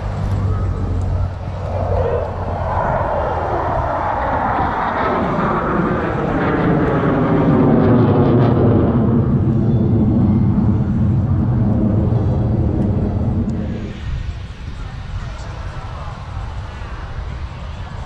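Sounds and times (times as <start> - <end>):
fighter jet flypast: 0.0 - 18.0.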